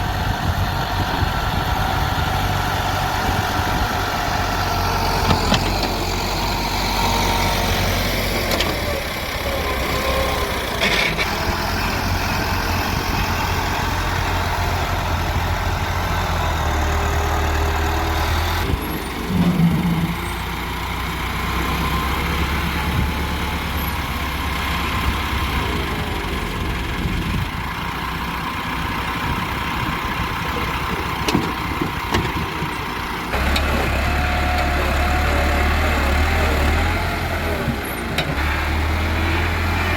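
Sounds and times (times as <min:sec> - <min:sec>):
heavy diesel machinery engines: 0:00.0 - 0:39.9.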